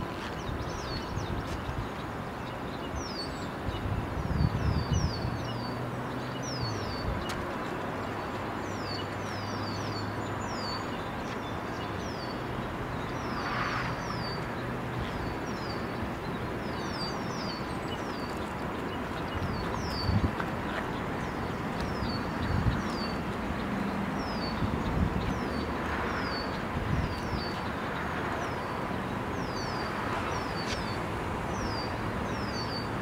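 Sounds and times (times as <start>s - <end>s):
birds chirping: 0.1s - 33.0s.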